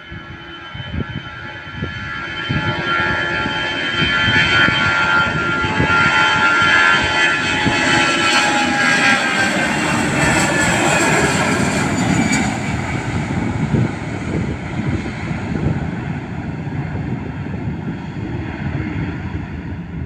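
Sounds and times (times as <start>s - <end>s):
jet engines whining and rumbling: 0.0s - 20.0s.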